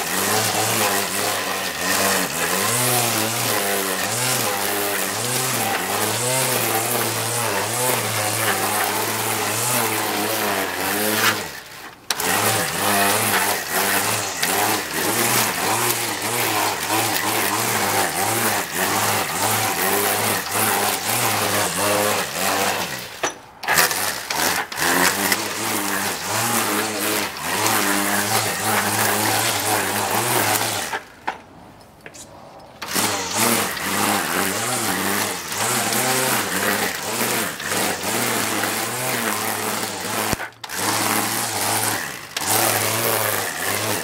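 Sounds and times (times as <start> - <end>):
string trimmer cutting grass: 0.0 - 44.0.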